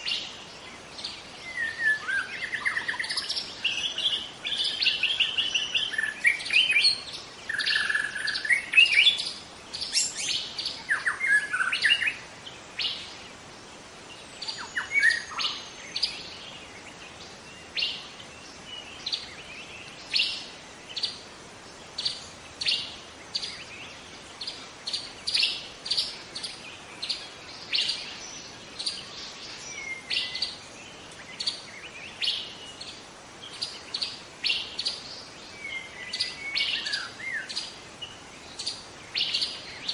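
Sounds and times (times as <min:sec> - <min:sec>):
bird singing: 0:00.0 - 0:13.4, 0:14.0 - 0:39.9.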